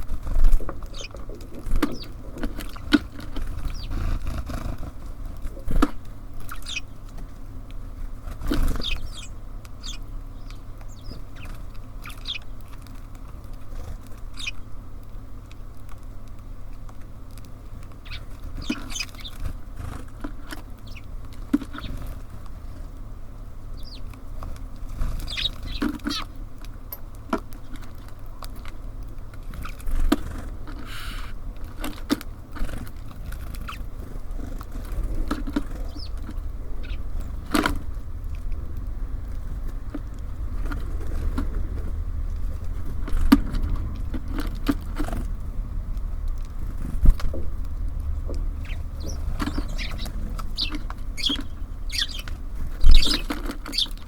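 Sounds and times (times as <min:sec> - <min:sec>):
birds pecking and tapping: 0:00.0 - 0:54.0
small birds chirping: 0:00.0 - 0:54.0
steady low rumble: 0:00.0 - 0:54.0.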